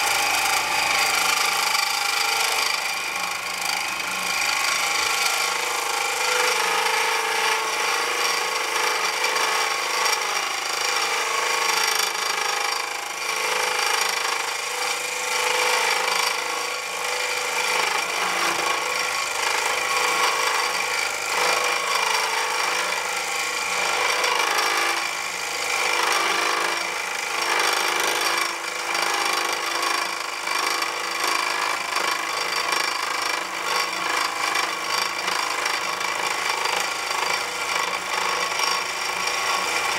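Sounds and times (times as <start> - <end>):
chisel scraping spinning wood: 0.0 - 39.9
wood lathe motor running: 0.0 - 39.9.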